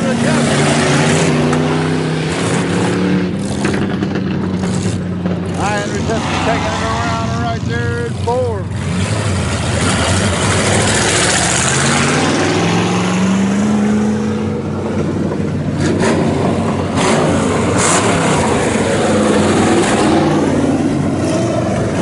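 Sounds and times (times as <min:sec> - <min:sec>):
engine accelerating: 0:00.0 - 0:22.0
race car engines roaring: 0:00.0 - 0:22.0.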